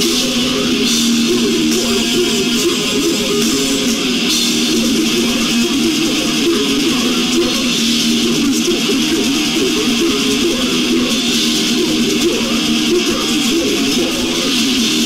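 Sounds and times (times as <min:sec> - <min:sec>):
bass guitar: 0:00.0 - 0:15.0
electric guitar: 0:00.0 - 0:15.0.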